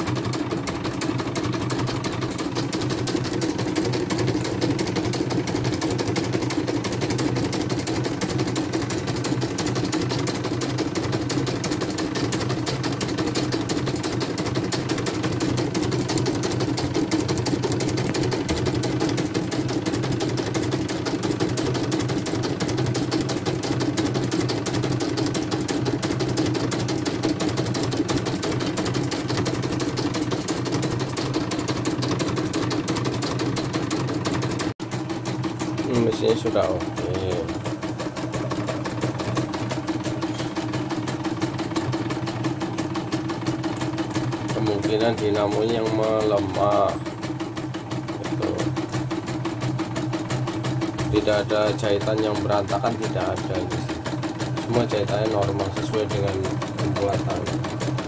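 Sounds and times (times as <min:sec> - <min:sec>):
embroidery machine stitching: 0:00.0 - 0:58.0.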